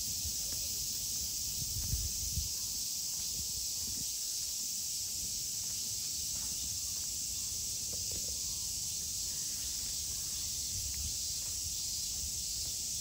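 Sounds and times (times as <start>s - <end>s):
cicada chorus droning: 0.0s - 13.0s.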